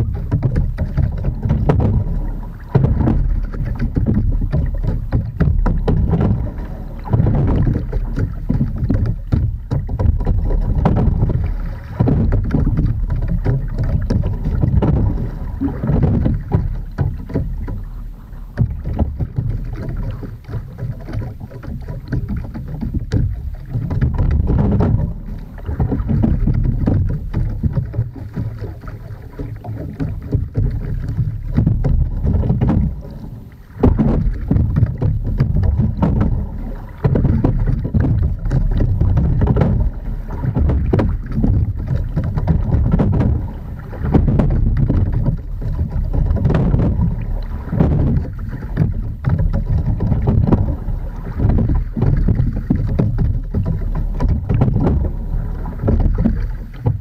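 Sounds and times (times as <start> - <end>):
water splashing along boat hull: 0.0 - 57.0
wind on microphone: 0.0 - 57.0.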